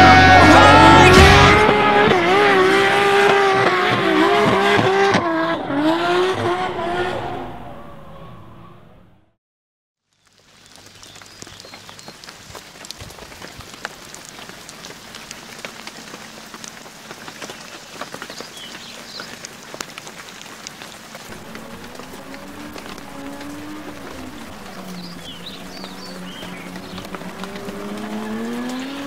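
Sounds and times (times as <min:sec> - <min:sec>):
rain pattering on puddles: 0:00.0 - 0:05.1, 0:10.0 - 0:29.0.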